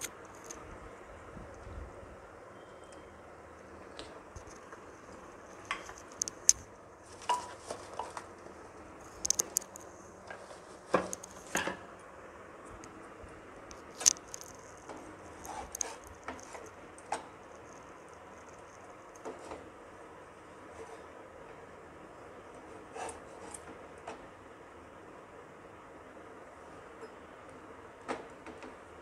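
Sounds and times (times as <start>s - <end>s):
low background noise: 0.0s - 29.0s.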